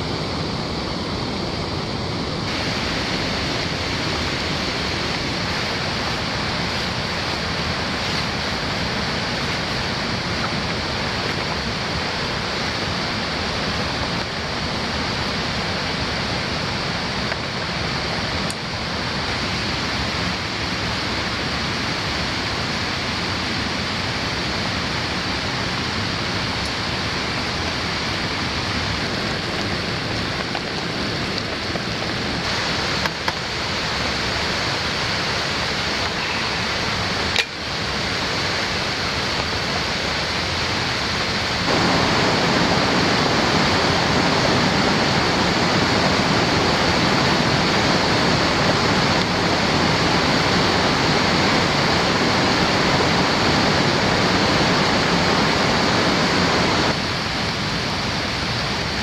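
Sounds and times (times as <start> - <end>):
fast-flowing water rushing: 0.0 - 59.0.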